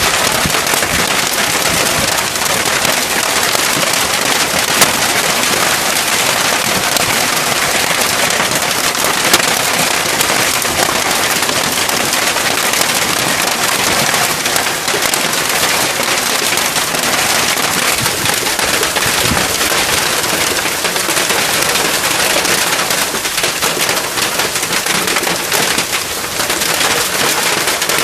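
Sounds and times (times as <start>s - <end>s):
hailstones pelting hard surface: 0.0s - 28.0s
heavy rain: 0.0s - 28.0s.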